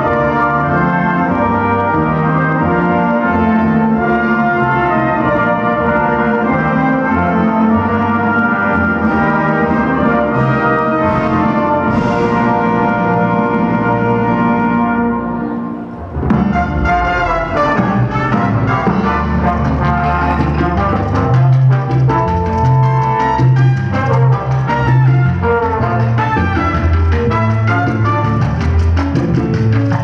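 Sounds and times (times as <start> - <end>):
orchestral brass chords: 0.0 - 28.6.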